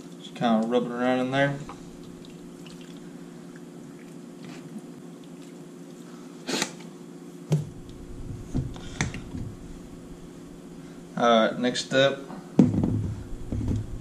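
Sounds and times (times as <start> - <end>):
steady low hum: 0.0 - 6.4, 7.2 - 14.0.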